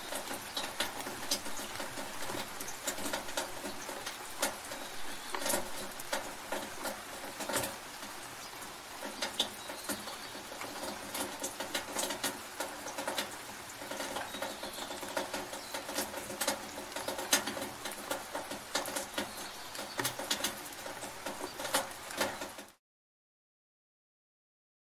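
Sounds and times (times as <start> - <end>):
steady rain: 0.0 - 22.8
water drips and splashes: 0.0 - 22.8.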